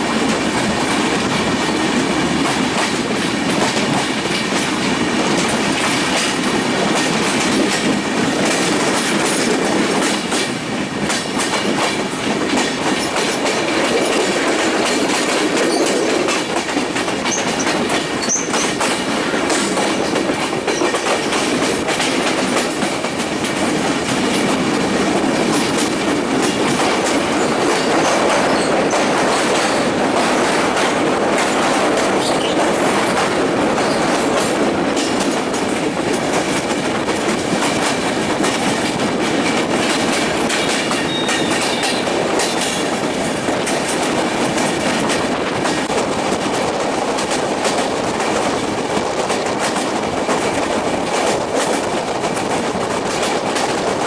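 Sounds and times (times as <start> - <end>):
rumble of train wheels: 0.0 - 54.0
wheels clicking over rail joints: 0.0 - 54.0.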